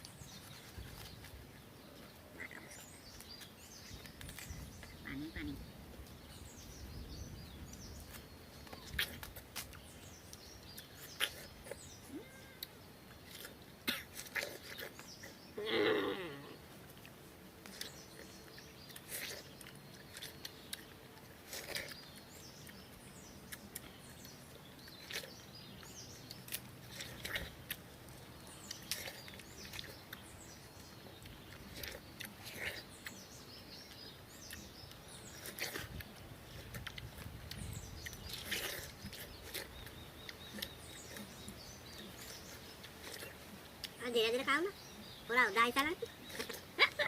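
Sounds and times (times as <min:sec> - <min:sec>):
people chewing watermelon: 0:00.0 - 0:47.0.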